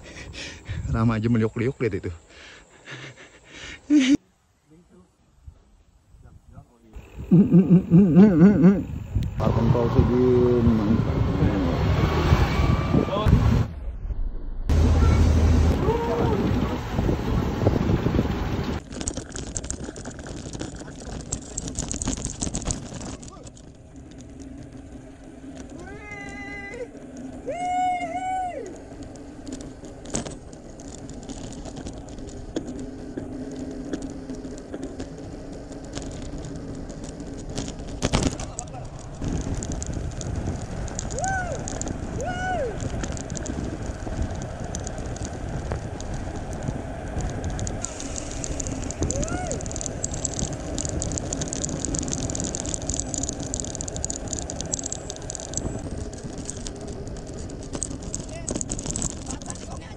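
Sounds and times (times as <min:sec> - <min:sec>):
bicycle tyres on gravel: 0:00.0 - 0:13.8, 0:14.7 - 0:59.9
wind: 0:00.0 - 0:59.9
dense high ticking: 0:06.9 - 0:13.3, 0:14.7 - 0:59.9
bike clicks and rattles: 0:07.0 - 0:11.6, 0:14.7 - 0:59.9.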